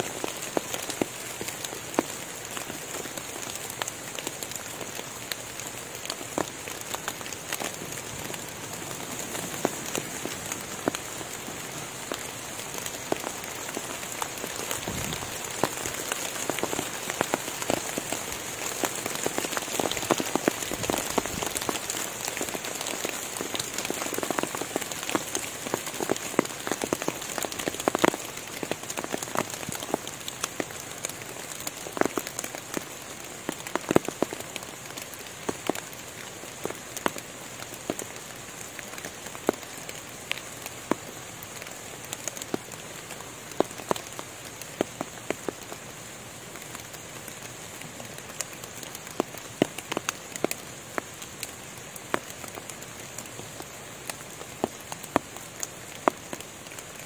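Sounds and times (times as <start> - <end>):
rain pattering on foliage: 0.0 - 57.0.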